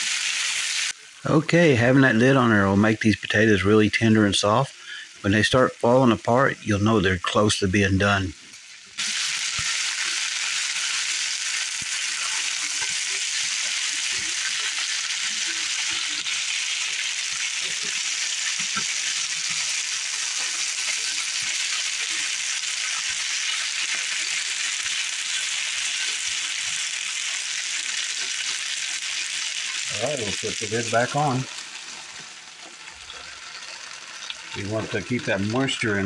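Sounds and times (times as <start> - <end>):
potato slices sizzling in skillet: 0.0 - 1.4, 4.7 - 36.0.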